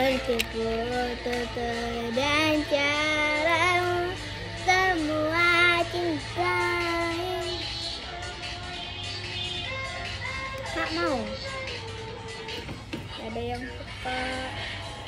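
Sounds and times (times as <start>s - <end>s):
girl singing: 0.0s - 8.6s, 9.5s - 14.9s.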